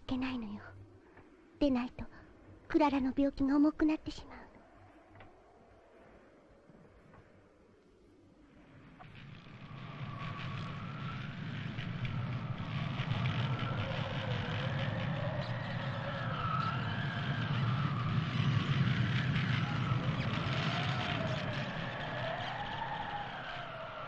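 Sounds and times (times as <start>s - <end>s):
howling wind: 0.0s - 24.0s.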